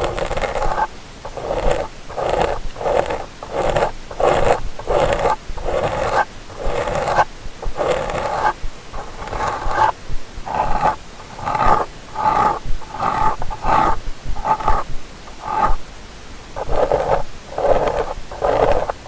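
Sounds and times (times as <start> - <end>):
rasping ear-cleaning scrapes: 0.0 - 15.8, 16.6 - 19.0.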